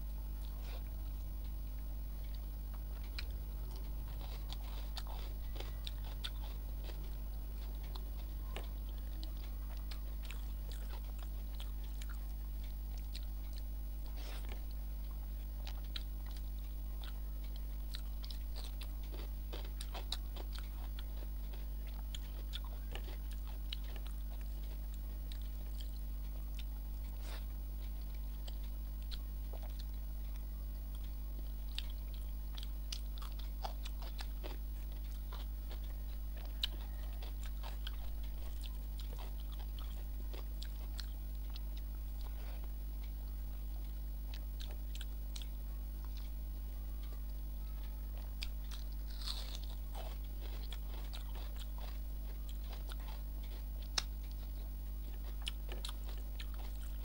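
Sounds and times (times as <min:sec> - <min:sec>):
steady low hum: 0:00.0 - 0:57.0
chewing and wet mouth sounds: 0:00.4 - 0:46.4, 0:47.1 - 0:57.0.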